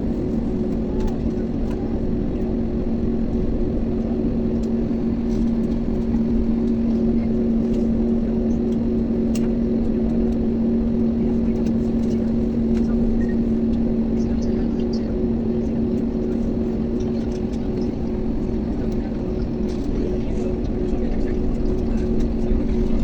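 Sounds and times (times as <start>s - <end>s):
aircraft cabin engine drone: 0.0s - 23.0s.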